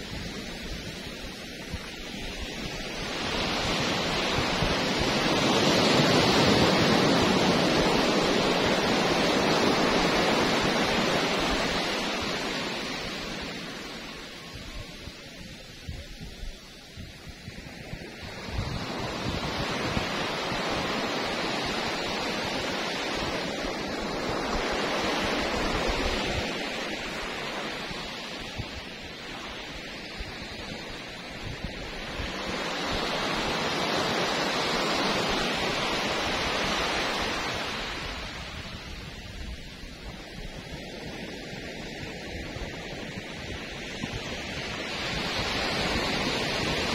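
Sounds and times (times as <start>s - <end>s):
waves breaking on a beach: 0.0s - 46.9s.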